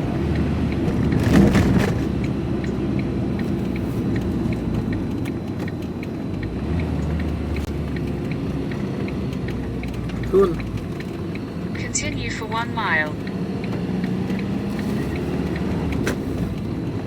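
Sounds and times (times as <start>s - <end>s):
turn indicator ticking: 0.0s - 1.4s, 2.0s - 17.0s
vehicle engine and road rumble: 0.0s - 17.0s.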